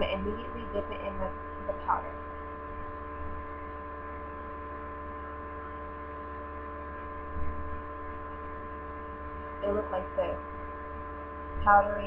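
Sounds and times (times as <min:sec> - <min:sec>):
electrical hum with whining tones: 0:00.0 - 0:12.0.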